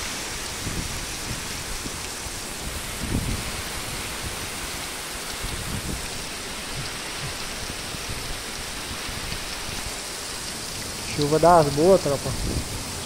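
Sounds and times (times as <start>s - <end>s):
heavy rain on open ground: 0.0s - 13.0s.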